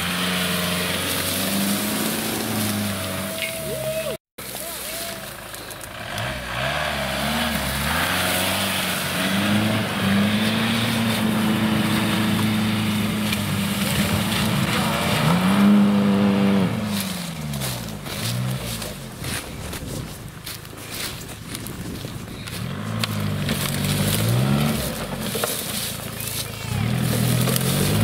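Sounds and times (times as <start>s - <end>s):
diesel engine revving hard: 0.0s - 4.2s, 5.3s - 19.4s, 22.4s - 28.0s.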